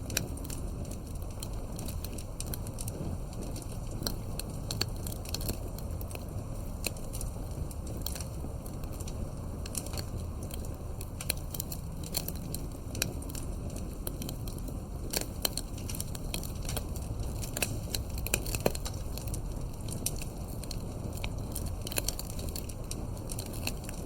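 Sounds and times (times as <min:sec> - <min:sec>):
low rumble of flame: 0:00.0 - 0:24.0
wood fire crackling: 0:00.0 - 0:24.0.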